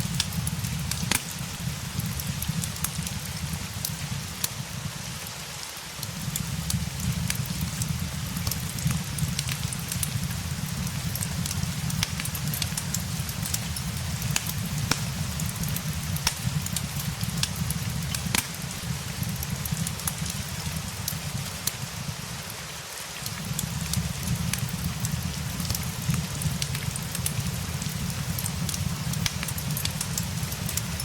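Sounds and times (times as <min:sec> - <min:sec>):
rain hiss: 0:00.0 - 0:31.0
wood fire crackling: 0:00.0 - 0:31.0.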